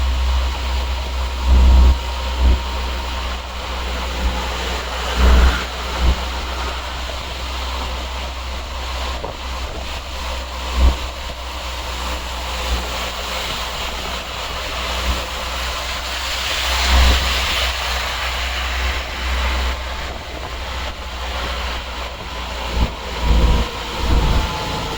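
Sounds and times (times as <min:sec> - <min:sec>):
traffic moving through floodwater: 0:00.0 - 0:24.9
wind buffeting microphone: 0:00.0 - 0:24.9.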